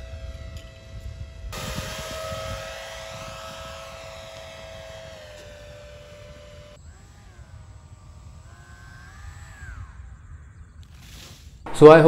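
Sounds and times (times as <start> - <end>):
model plane electric motors whining: 0.0 - 11.6.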